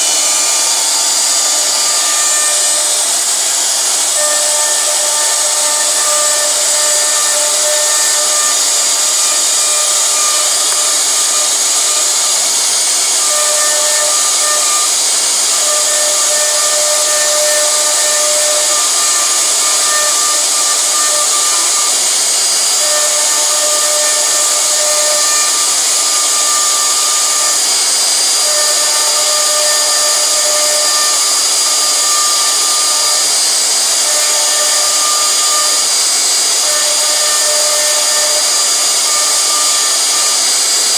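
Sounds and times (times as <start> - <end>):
router spindle hissing: 0.0 - 40.9.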